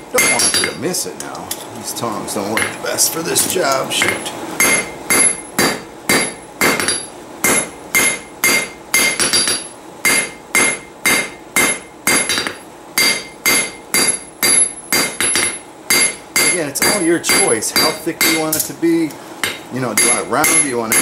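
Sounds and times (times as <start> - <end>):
hammer striking metal on anvil: 0.0 - 0.8, 4.0 - 18.7, 19.4 - 21.0.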